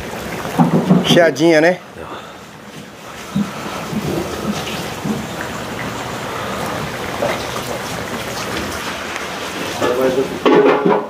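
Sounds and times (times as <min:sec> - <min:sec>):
pork frying in lard: 0:00.0 - 0:11.0.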